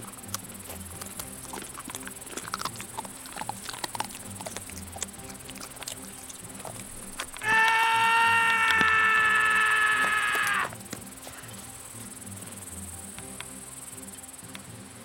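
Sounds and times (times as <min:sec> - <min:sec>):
creature clicks: 0:00.0 - 0:13.6.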